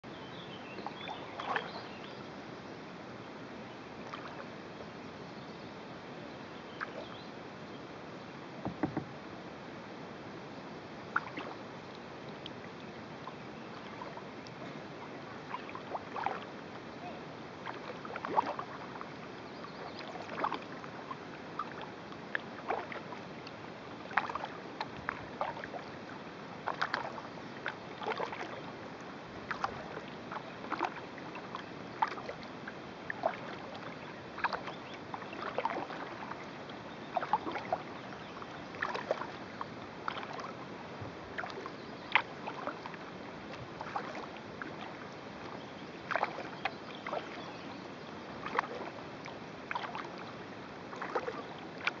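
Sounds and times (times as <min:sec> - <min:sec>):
kayak paddle splashing water: 0:00.7 - 0:02.2, 0:04.0 - 0:04.6, 0:08.6 - 0:09.4, 0:11.1 - 0:52.0.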